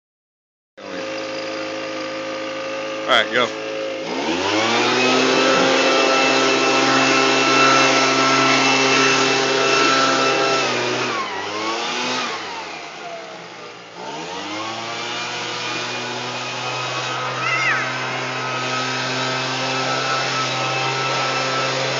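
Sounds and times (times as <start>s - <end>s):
leaf blower running: 0.8s - 21.9s.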